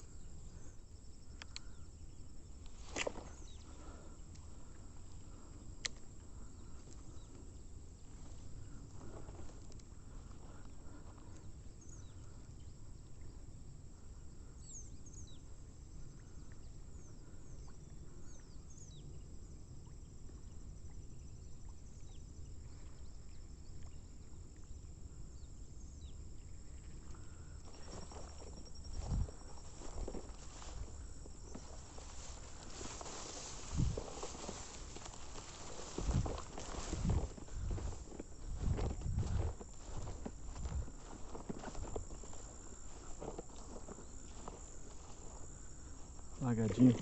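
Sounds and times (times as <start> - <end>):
high insect trill: 0.0 - 47.0.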